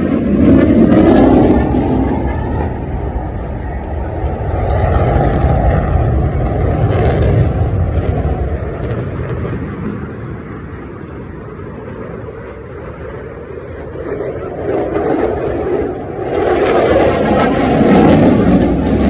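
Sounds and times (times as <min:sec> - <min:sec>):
fighter jet passing: 0:00.0 - 0:19.0.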